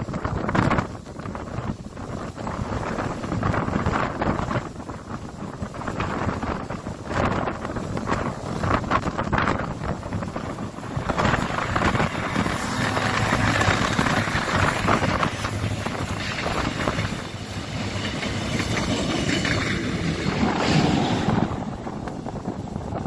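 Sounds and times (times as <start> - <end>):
train wheels rolling over rails: 0.0 - 23.0
wind blowing on microphone: 0.0 - 23.0
diesel locomotive engine running: 0.9 - 23.0.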